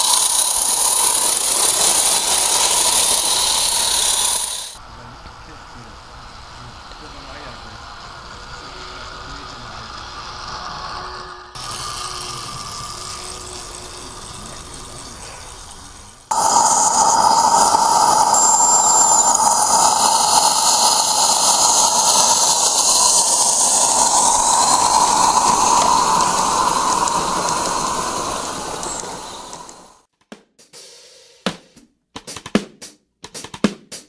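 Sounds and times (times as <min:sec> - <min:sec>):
steam locomotive hissing: 0:00.0 - 0:30.1.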